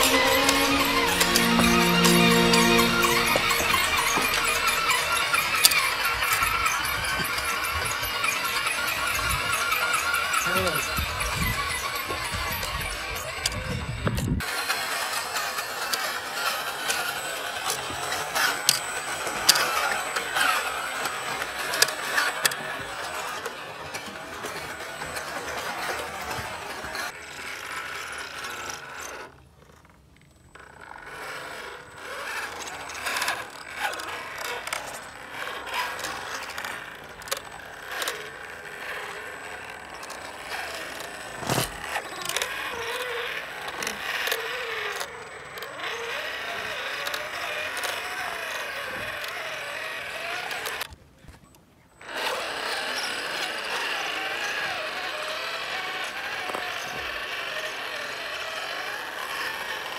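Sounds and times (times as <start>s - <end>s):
rc car motor whirring: 3.8s - 51.0s, 52.0s - 59.9s.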